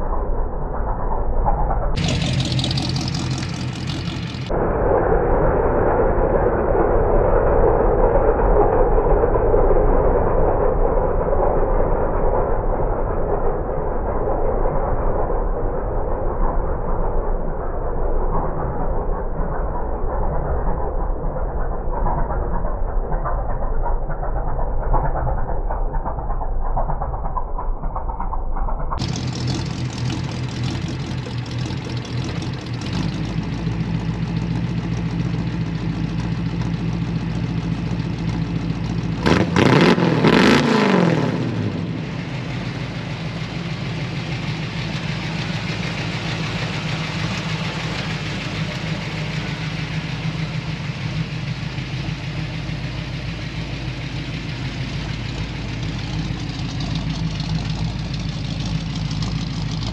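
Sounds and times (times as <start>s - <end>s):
car engine running and revving: 0.0s - 4.6s, 16.4s - 59.9s.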